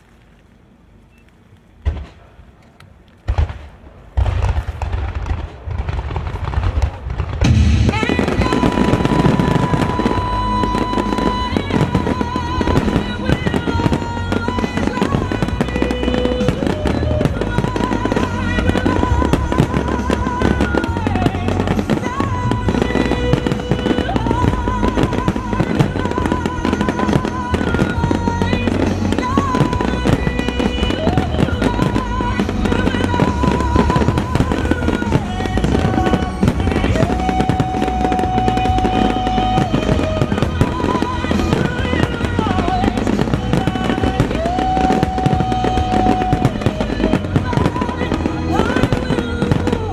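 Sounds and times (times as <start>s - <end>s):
fireworks bursting and crackling: 0.0s - 49.9s
sung ballad: 7.4s - 49.9s.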